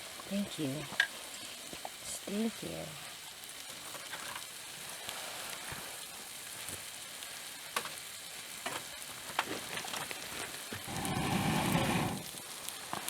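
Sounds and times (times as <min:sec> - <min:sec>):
meat sizzling on hot metal: 0:00.0 - 0:13.0.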